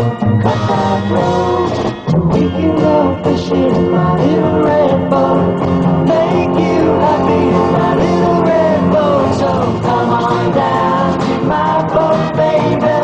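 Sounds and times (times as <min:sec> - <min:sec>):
pop-rock band playing: 0:00.0 - 0:13.0.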